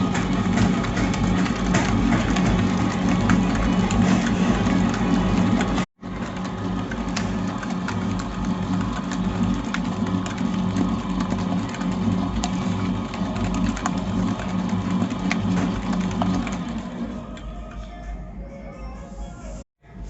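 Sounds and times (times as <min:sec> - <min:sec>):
electric mixer humming: 0:00.0 - 0:17.5.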